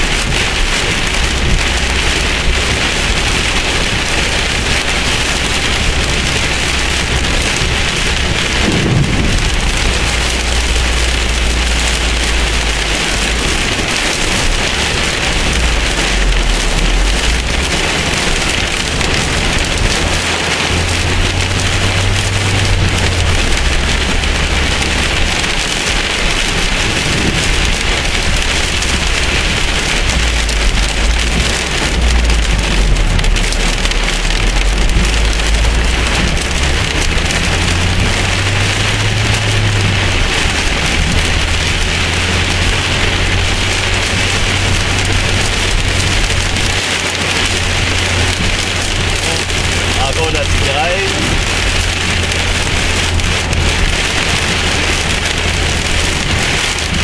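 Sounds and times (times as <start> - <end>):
heavy rain on car roof: 0.0 - 57.0
low rumble: 0.0 - 57.0.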